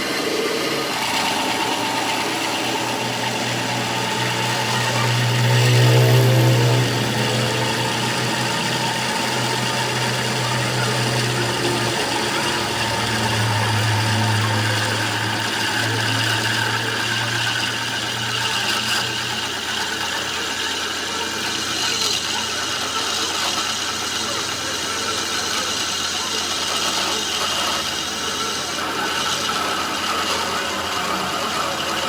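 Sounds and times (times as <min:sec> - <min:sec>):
machine motor humming: 0:00.0 - 0:32.0.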